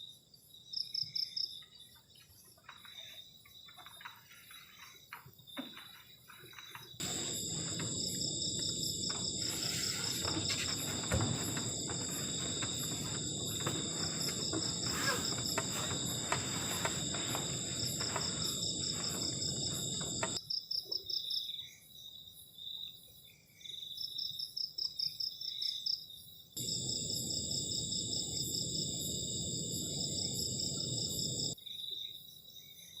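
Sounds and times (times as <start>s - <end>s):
crickets trilling: 0.0s - 21.6s, 26.6s - 32.7s.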